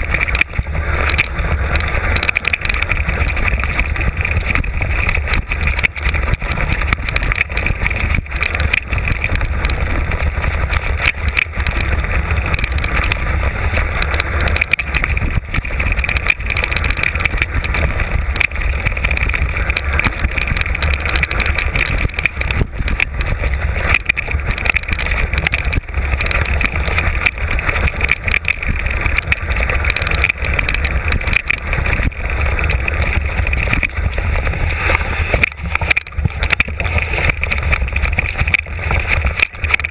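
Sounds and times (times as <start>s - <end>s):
bike rattling clicks and knocks: 0.0s - 39.9s
tyres rushing on rough trail: 0.0s - 39.9s
wind buffeting microphone: 0.0s - 39.9s.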